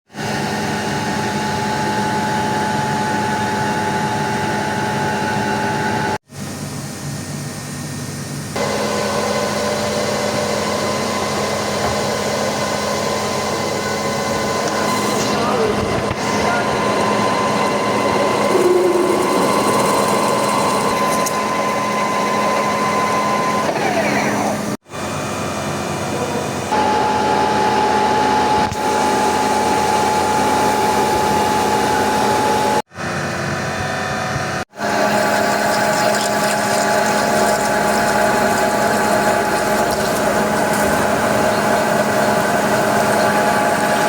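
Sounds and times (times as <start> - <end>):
quieter steady machine sound: 0.2 - 44.0
milling machine running: 8.6 - 44.0
spindle whine: 8.6 - 44.0.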